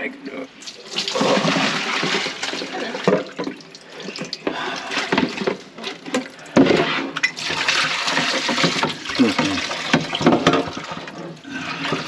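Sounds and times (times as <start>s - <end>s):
water sloshing in a sink: 0.6s - 12.0s.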